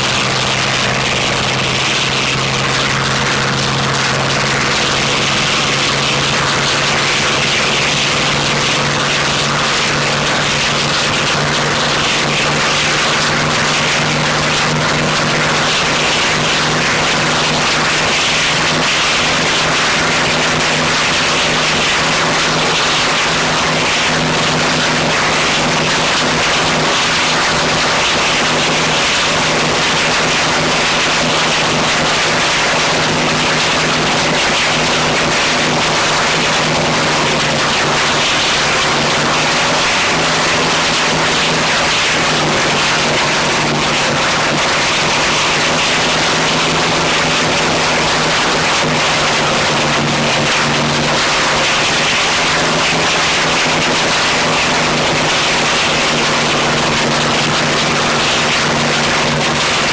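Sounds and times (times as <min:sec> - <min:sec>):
radial aircraft engine droning: 0:00.0 - 0:59.9.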